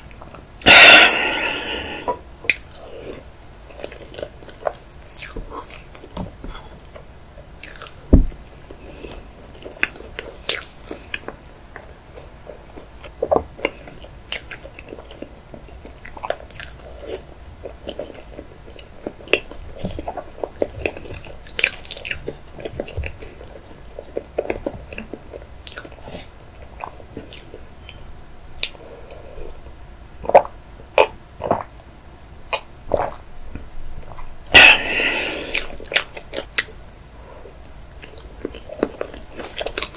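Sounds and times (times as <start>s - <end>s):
person chewing: 0.0s - 28.0s, 32.5s - 39.9s.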